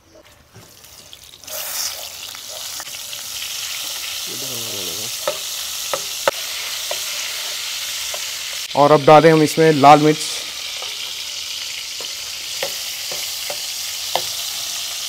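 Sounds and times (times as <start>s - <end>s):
butter sizzling in oil: 0.7s - 15.0s.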